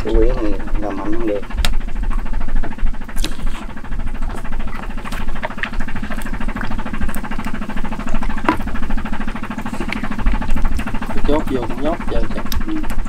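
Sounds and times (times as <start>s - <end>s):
small boat engine idling: 0.0s - 13.0s.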